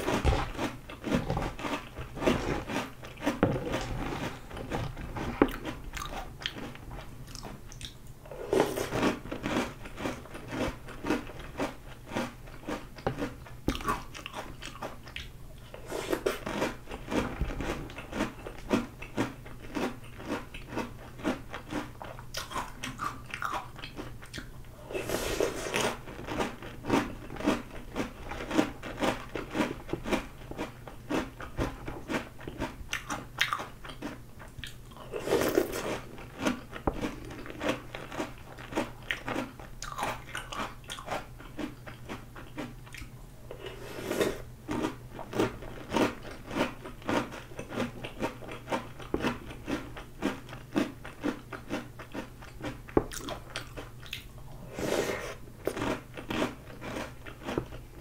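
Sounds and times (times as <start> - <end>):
crunching cereal: 0.0 - 15.2, 15.8 - 57.9.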